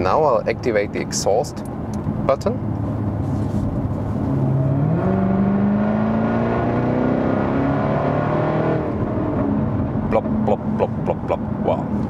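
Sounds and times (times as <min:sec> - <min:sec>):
car engine accelerating: 0:01.6 - 0:12.0.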